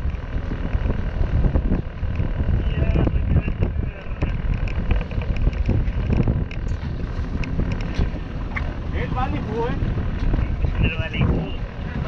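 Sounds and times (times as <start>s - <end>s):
boat motor rumbling: 0.0s - 12.0s
wind buffeting microphone: 0.0s - 12.0s.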